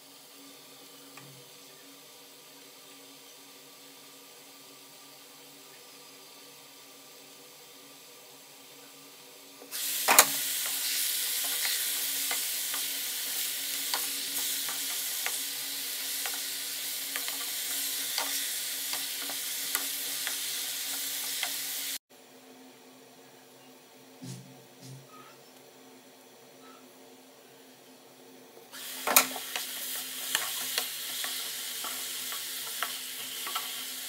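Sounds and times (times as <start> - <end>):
greens sizzling in a pot: 0.0 - 22.0, 28.7 - 34.0.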